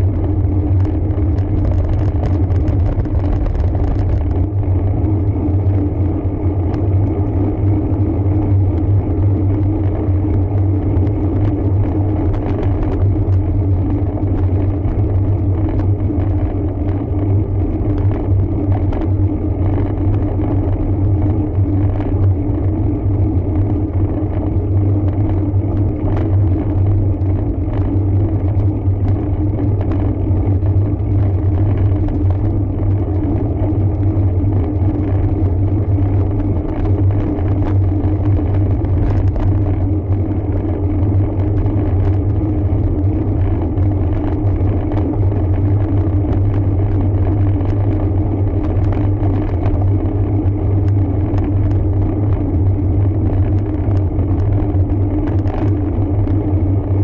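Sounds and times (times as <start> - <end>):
bike tyre road rumble: 0.0 - 57.0
small clicks and rattles: 0.0 - 57.0.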